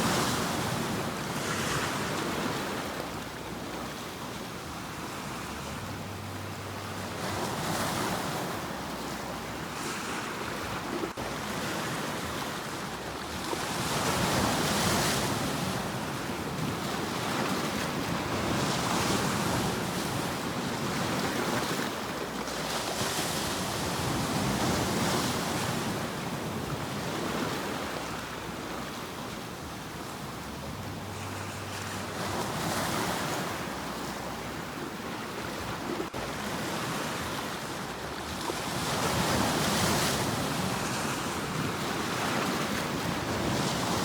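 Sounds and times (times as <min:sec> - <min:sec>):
waves breaking on shore: 0:00.0 - 0:44.0.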